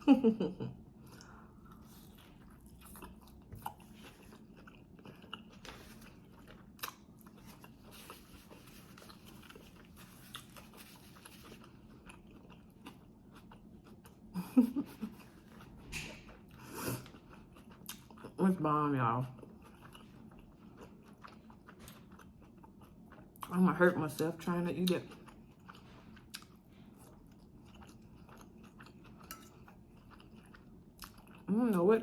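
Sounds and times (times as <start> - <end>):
close chewing and biting: 1.0 - 14.3, 15.1 - 18.4, 19.3 - 23.6, 24.9 - 31.5.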